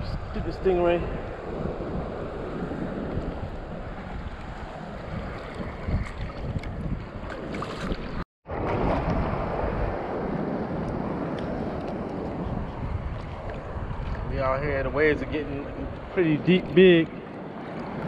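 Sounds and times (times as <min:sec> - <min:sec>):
choppy surf washing: 0:00.0 - 0:18.0
wind buffeting microphone: 0:00.0 - 0:18.0.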